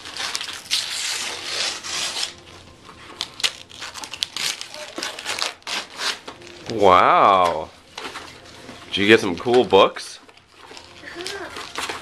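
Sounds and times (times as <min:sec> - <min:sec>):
wrapping paper rustling and crinkling: 0:00.0 - 0:12.0.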